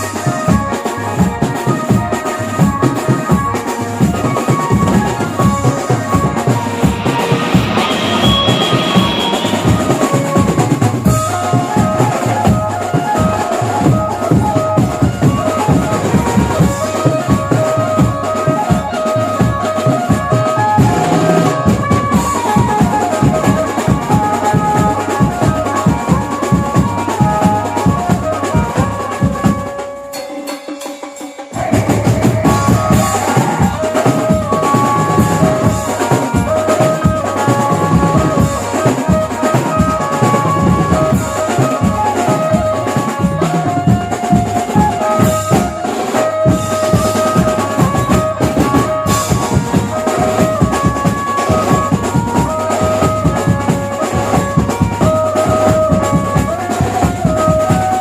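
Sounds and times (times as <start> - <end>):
steady drum beat: 0.0 - 58.0.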